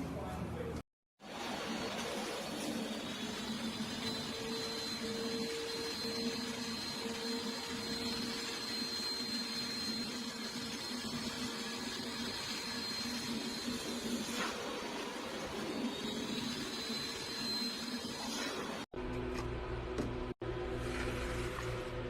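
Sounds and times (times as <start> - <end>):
machine humming: 1.3 - 20.3.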